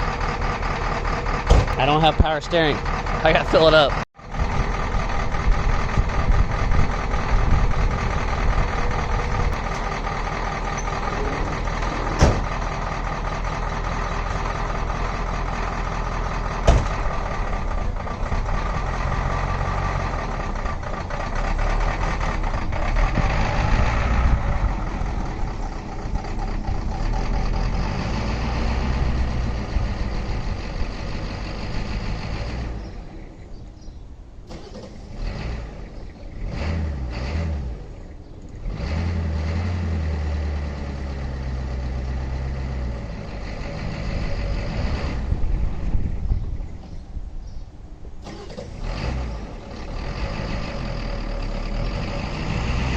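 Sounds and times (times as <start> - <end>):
diesel truck engine running: 0.0 - 52.9.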